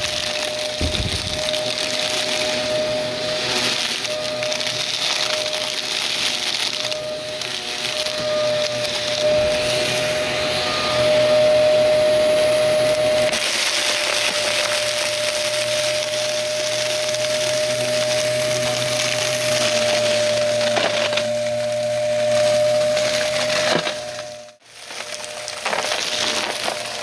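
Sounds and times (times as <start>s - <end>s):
debris rattling through vacuum: 0.0s - 9.9s, 12.9s - 27.0s
vacuum cleaner motor whine: 0.0s - 27.0s.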